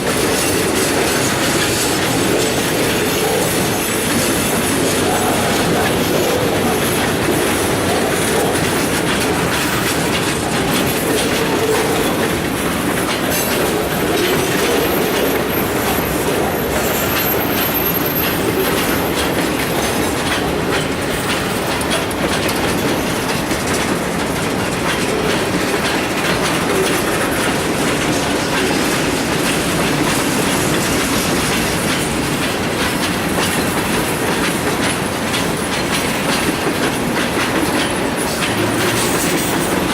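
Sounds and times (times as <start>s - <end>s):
freight train cars clattering: 0.0s - 39.9s.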